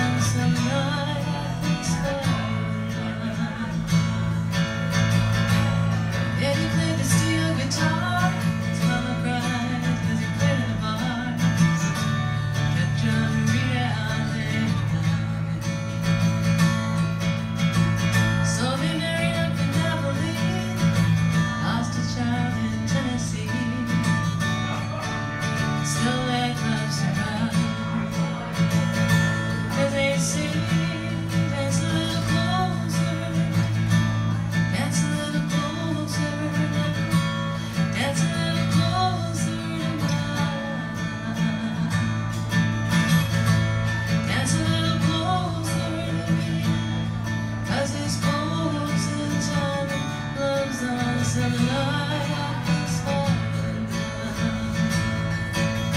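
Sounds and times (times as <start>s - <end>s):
woman singing: 0.0s - 17.0s, 17.6s - 55.9s
acoustic guitar strumming: 0.0s - 55.9s.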